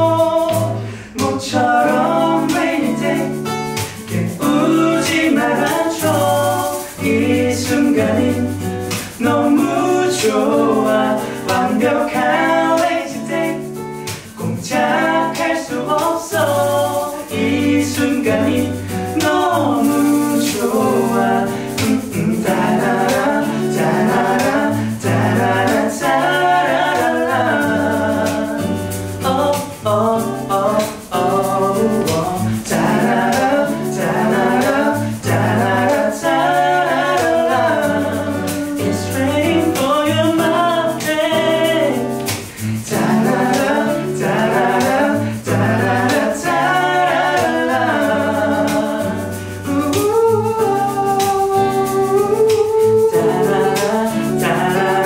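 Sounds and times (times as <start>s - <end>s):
hand shaker: 0.0s - 55.0s
strummed acoustic guitar: 0.0s - 55.0s
two men singing in harmony: 0.0s - 55.0s.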